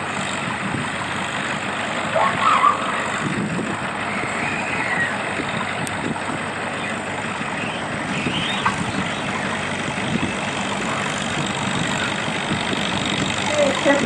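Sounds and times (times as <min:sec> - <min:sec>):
tractor engine under heavy load: 0:00.0 - 0:14.0.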